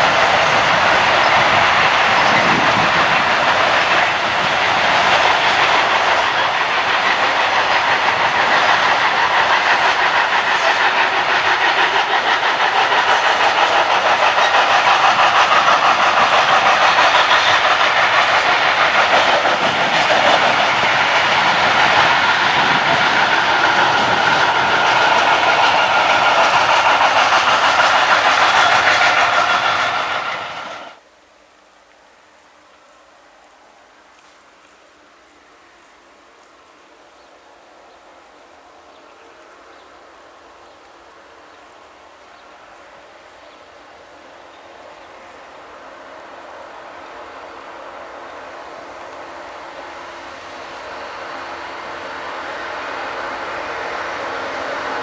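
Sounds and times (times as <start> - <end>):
freight train wheels rumbling: 0.0 - 31.1, 32.6 - 55.0.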